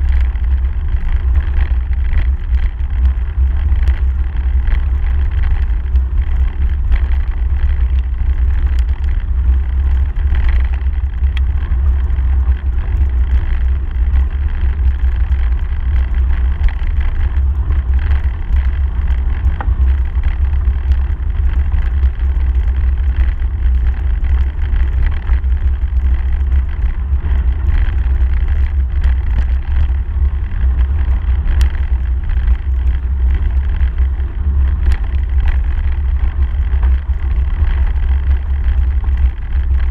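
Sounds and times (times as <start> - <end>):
wind and ride vibration rumble: 0.0 - 39.9.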